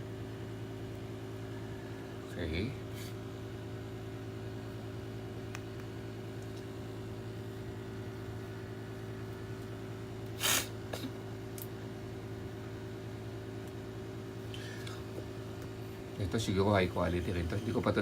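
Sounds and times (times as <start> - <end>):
appliance humming: 0.0 - 18.0.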